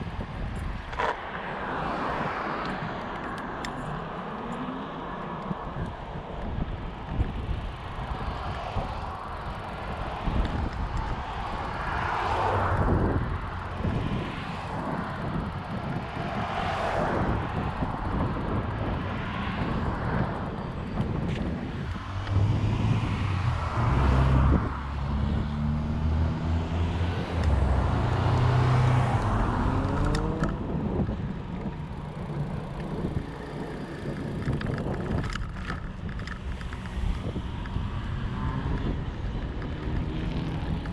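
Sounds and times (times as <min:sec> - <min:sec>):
bike tyre noise: 0:00.0 - 0:40.9
vehicles passing: 0:00.0 - 0:40.9
wind noise: 0:00.0 - 0:40.9.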